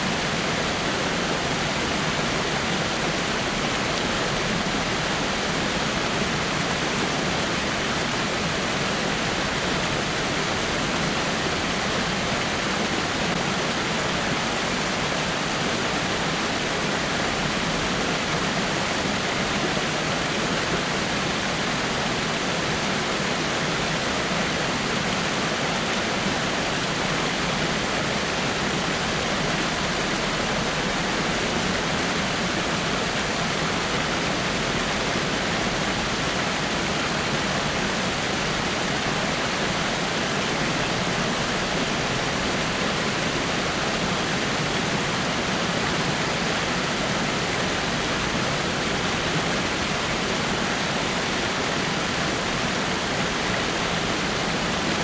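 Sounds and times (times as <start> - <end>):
waterfall splashing over rocks: 0.0 - 55.0.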